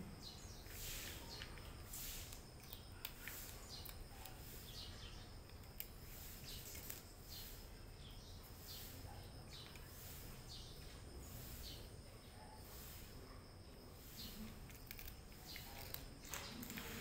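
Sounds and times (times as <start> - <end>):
faint bird chirps: 0.0 - 17.0
low steady background noise: 0.0 - 17.0.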